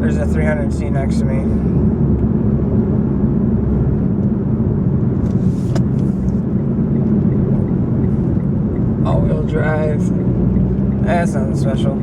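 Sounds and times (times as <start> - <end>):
road and engine drone in car: 0.0 - 12.0.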